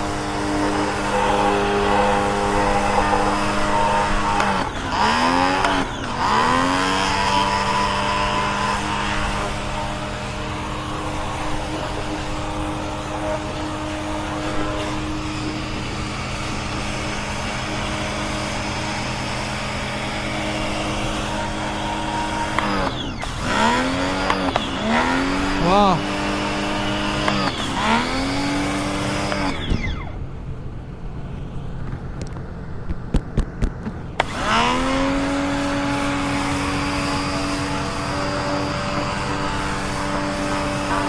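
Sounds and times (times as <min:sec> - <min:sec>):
electric pressure washer running: 0:00.0 - 0:30.4, 0:34.2 - 0:41.0.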